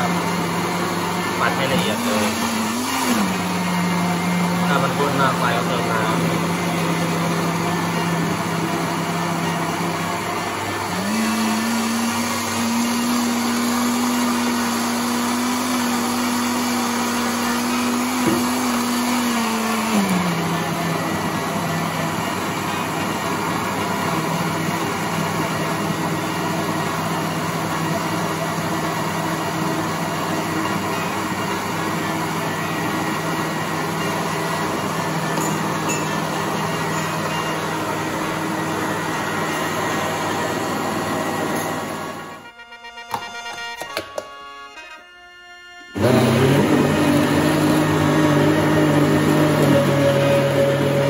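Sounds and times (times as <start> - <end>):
electric blender running: 0.0 - 44.5, 45.8 - 51.0.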